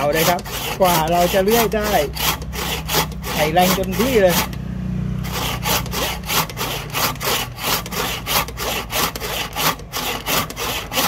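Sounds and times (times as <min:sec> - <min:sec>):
handsaw rasping through hardwood: 0:00.0 - 0:04.6, 0:05.2 - 0:11.0.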